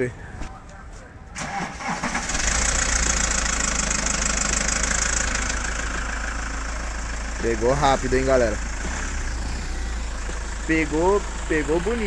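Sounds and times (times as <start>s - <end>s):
diesel engine starting and idling: 1.2s - 12.0s.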